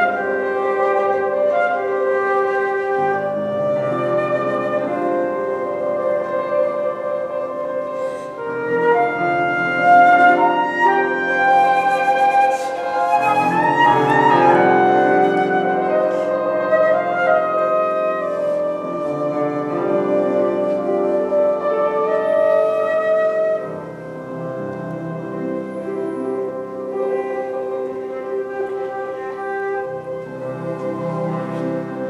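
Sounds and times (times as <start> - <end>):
flute melody: 0.0 - 32.0
grand piano chords: 0.0 - 32.0.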